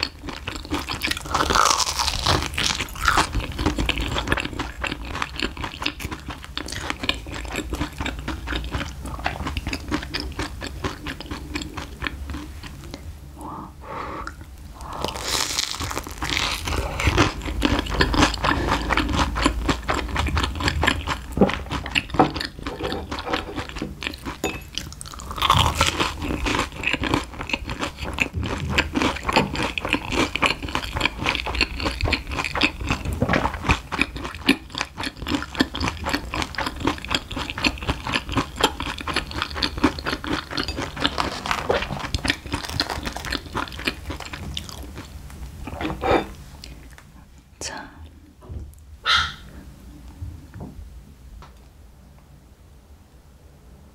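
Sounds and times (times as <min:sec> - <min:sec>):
crunching and chewing crispy food: 0:00.0 - 0:12.9, 0:14.3 - 0:47.1.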